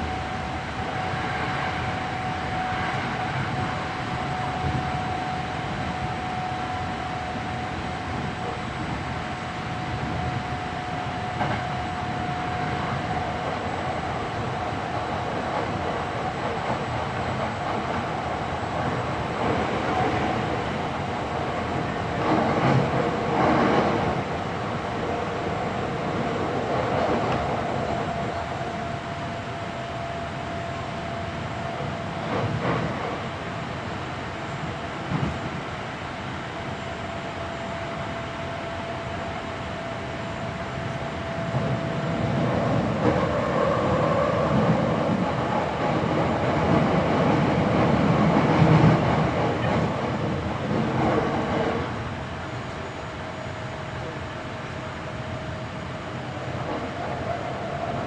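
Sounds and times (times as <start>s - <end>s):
train running noise: 0.0s - 58.0s
wheels rumbling on rail: 0.0s - 58.0s.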